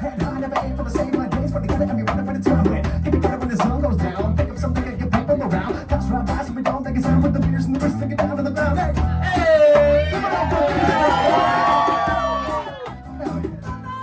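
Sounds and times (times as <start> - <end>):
drum beat: 0.0 - 14.0
live band playing upbeat song: 0.0 - 14.0.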